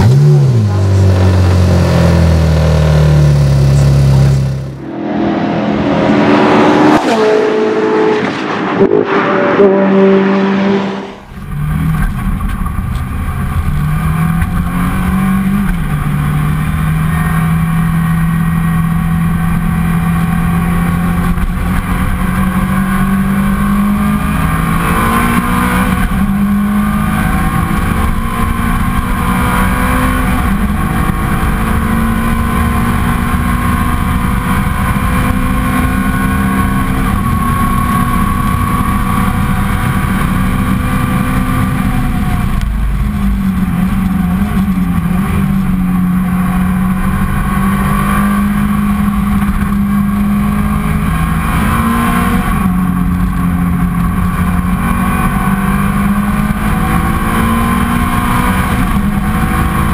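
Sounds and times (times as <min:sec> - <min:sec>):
race car engine accelerating: 0:00.0 - 0:59.9
road and wind noise: 0:00.0 - 0:59.9.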